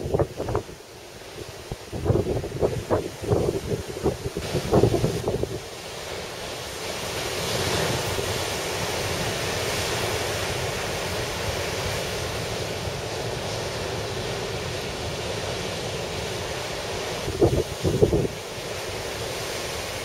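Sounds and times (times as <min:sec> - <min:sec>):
wind rumbling on microphone: 0:00.0 - 0:05.7, 0:07.4 - 0:20.0
storm surf breaking on breakwater: 0:00.0 - 0:20.0.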